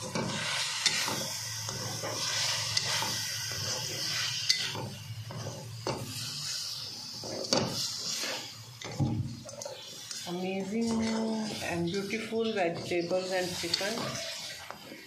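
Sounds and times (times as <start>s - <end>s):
food sizzling: 0.0s - 15.0s
spatula scraping a wok: 0.0s - 15.0s.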